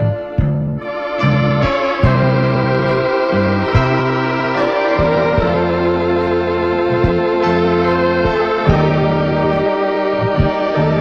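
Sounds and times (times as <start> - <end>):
bass line: 0.0 - 11.0
keyboard chords: 0.0 - 11.0.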